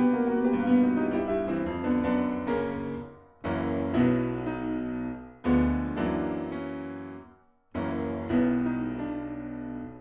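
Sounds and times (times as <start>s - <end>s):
grand piano chords and melody: 0.0s - 10.0s.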